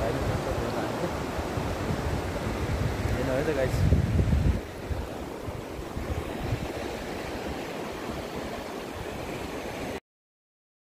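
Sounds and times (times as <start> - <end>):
river running over stones: 0.0 - 10.0
wind buffeting microphone: 0.0 - 10.0.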